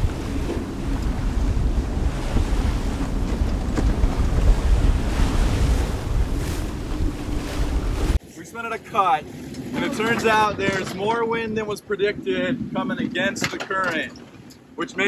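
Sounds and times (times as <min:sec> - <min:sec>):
wind buffeting microphone: 0:00.0 - 0:08.2, 0:09.2 - 0:14.5
choppy sea: 0:00.0 - 0:15.0.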